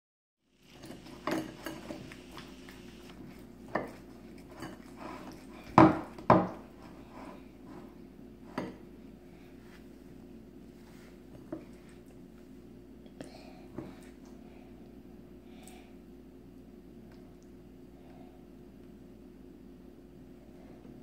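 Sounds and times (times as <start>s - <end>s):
faint steady hum: 0.4s - 21.0s.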